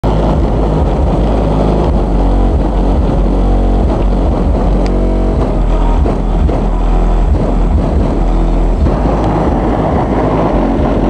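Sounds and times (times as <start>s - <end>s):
bass-heavy music from car speakers: 0.0s - 11.0s.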